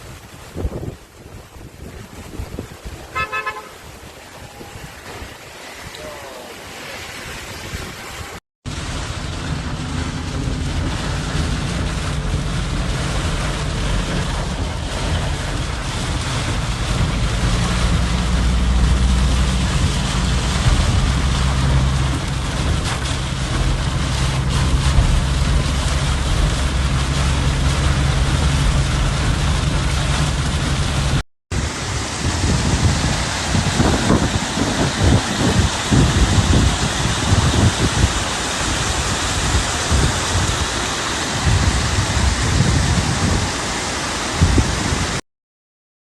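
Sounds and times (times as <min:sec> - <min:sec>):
heavy rain: 0:00.0 - 0:45.2
wind rumbling on microphone: 0:00.0 - 0:45.2.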